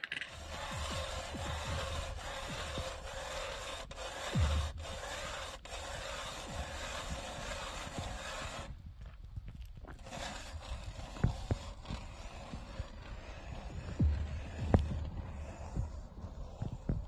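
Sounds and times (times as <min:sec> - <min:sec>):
ice auger scraping through ice: 0:00.1 - 0:08.7, 0:09.9 - 0:17.0.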